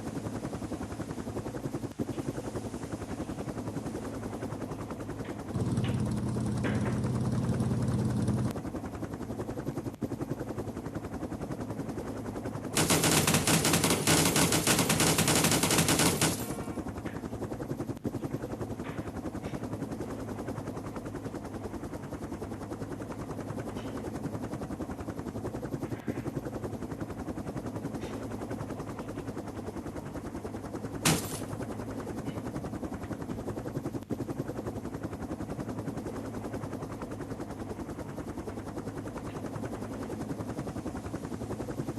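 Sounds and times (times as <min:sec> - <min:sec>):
helicopter rotor chopping: 0:00.0 - 0:41.9.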